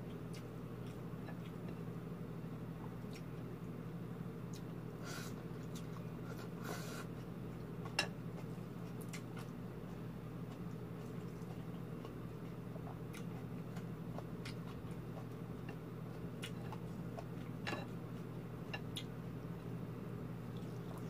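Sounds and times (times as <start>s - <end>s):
chewing and fingers picking food: 0.0s - 2.0s, 2.6s - 19.8s, 20.4s - 21.0s
low steady hum: 0.0s - 21.0s.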